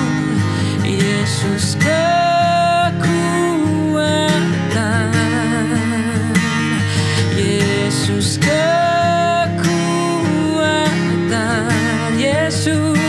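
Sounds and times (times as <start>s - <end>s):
man singing with vibrato: 0.0s - 13.0s
strummed acoustic guitar: 0.0s - 13.0s.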